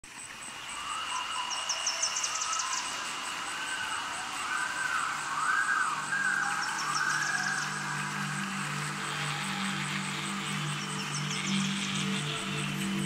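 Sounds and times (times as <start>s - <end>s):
synth tone wavering in pitch: 0.8s - 13.0s.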